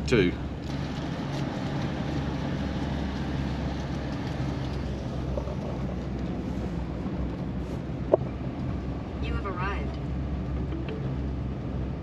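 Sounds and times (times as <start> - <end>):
pickup truck engine and road noise: 0.0 - 12.0.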